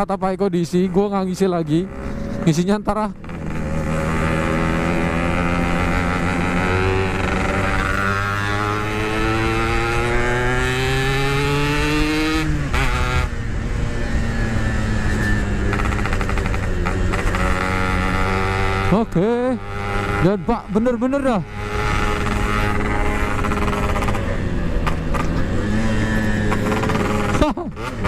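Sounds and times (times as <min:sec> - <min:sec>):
two-stroke motorcycle accelerating: 0:00.0 - 0:28.0.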